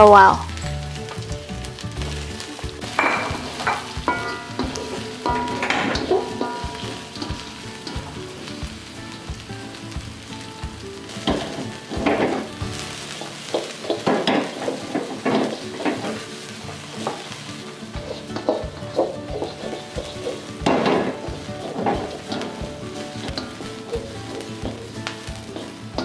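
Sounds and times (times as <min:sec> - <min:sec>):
garlic sizzling in hot oil: 0:00.0 - 0:26.0
spatula scraping wok: 0:01.0 - 0:26.0.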